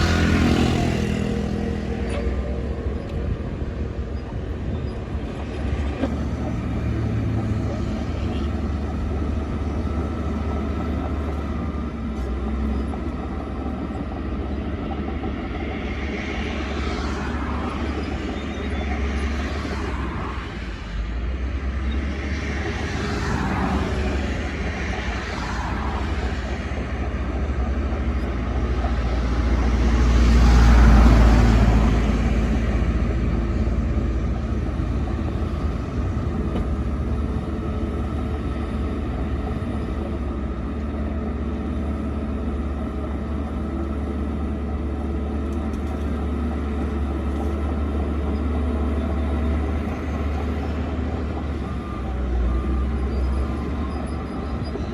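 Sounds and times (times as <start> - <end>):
bulldozer diesel engine rumbling: 0.0 - 54.9.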